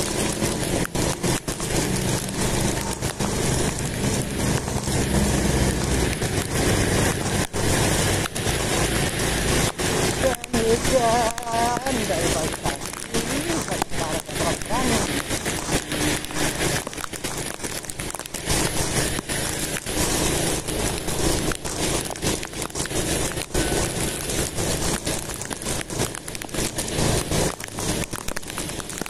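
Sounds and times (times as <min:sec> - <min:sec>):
motorbike riding on wet road: 0:00.0 - 0:29.0.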